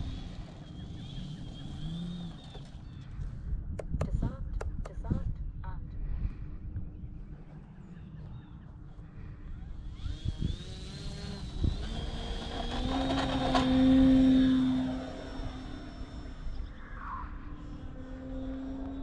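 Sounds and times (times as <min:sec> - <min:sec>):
electric motor and propeller whine: 0:00.0 - 0:03.7, 0:06.0 - 0:19.0.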